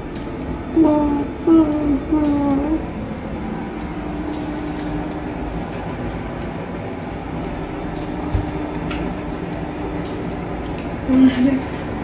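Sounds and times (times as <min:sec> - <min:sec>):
appliance hum: 0:00.0 - 0:12.0.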